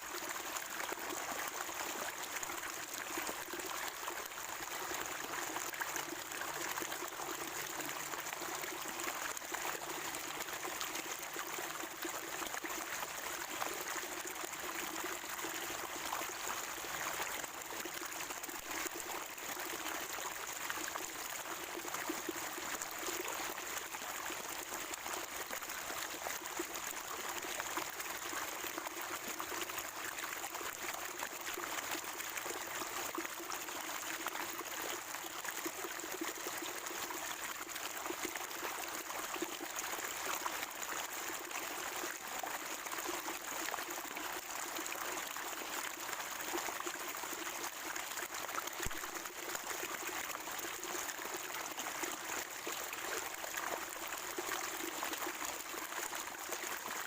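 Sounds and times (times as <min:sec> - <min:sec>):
spring water trickling and gurgling: 0:00.0 - 0:57.0.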